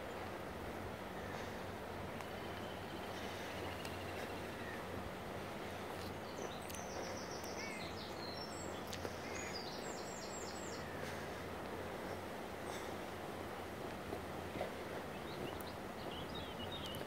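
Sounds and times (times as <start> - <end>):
outdoor background hiss: 0.0 - 17.0
songbird singing: 1.0 - 13.0, 14.8 - 17.0.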